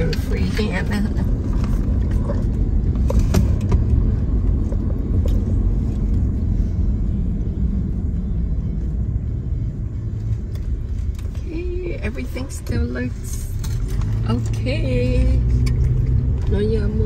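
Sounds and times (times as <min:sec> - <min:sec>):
road and engine rumble inside car: 0:00.0 - 0:17.0.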